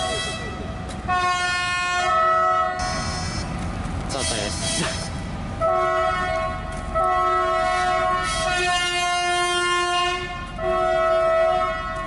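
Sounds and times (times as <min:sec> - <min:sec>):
locomotive air horn blasts: 0:00.0 - 0:03.6, 0:04.2 - 0:12.0.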